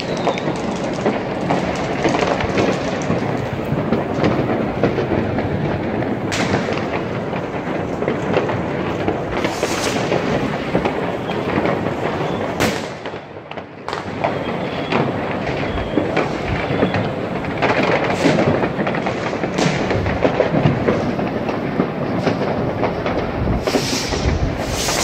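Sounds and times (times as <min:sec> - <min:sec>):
fireworks and firecrackers crackling: 0:00.0 - 0:25.0
loud firework bangs: 0:00.0 - 0:25.0.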